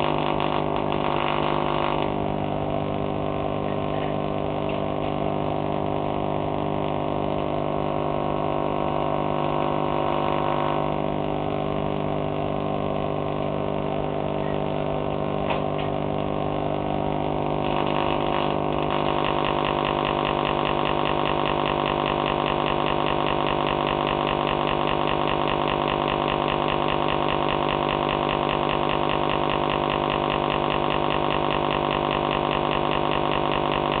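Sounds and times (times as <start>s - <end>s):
tesla coil spark buzz: 0.0s - 34.0s.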